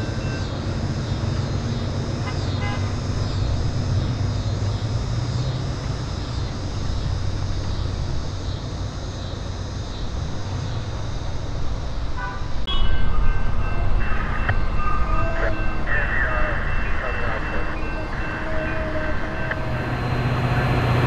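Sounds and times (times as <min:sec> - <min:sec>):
diesel train rumbling: 0:00.0 - 0:21.0.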